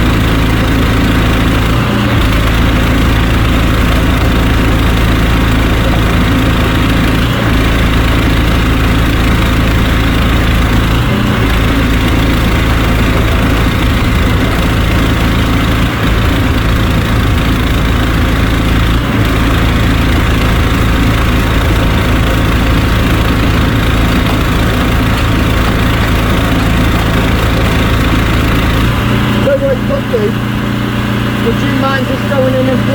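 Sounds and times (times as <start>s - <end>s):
drain-clearing machine engine: 0.0s - 32.9s.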